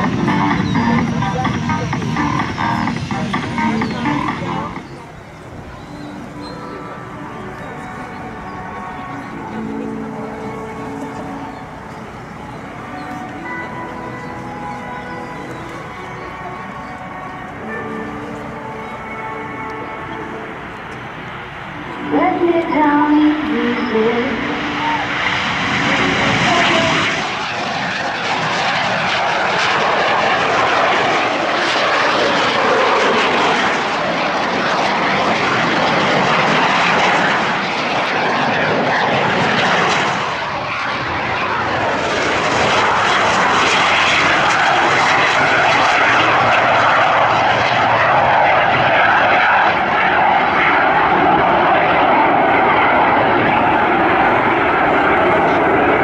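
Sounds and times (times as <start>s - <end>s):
loud aircraft engine: 0.0s - 56.0s.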